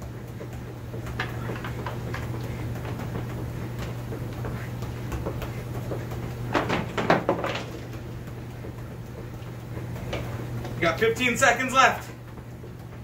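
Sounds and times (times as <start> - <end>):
ball tapped between feet: 0.0 - 11.2, 12.1 - 13.0.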